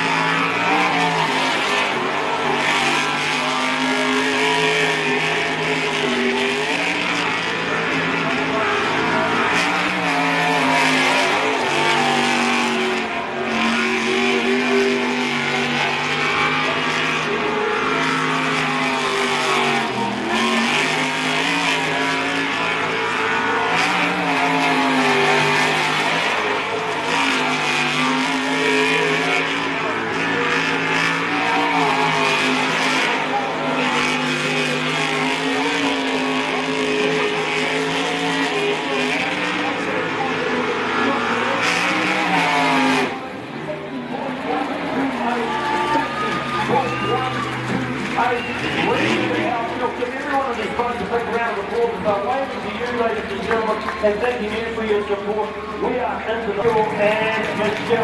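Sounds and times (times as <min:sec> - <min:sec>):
boat engine running hard: 0:00.0 - 0:58.0.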